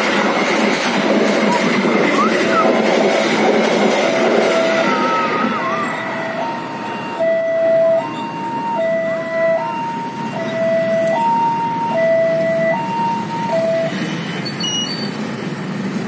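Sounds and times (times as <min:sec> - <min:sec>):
low traffic hum: 0:00.0 - 0:16.0
two-tone crossing alarm: 0:02.1 - 0:15.1.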